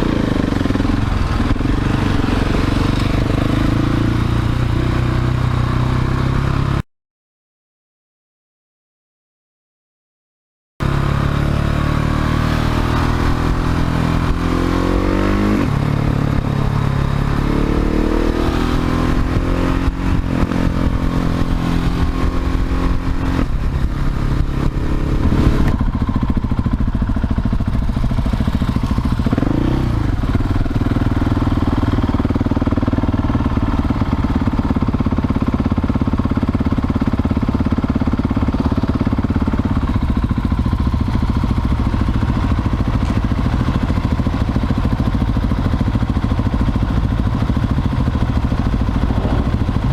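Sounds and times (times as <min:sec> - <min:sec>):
motorcycle engine shifting gears: 0:00.0 - 0:06.8, 0:10.8 - 0:49.9.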